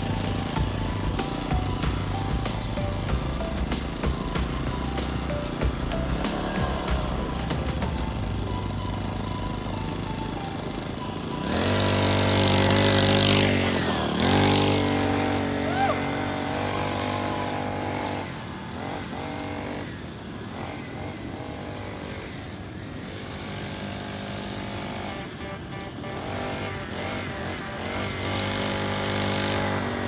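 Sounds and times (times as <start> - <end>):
two-stroke engine revving: 0.0 - 30.0.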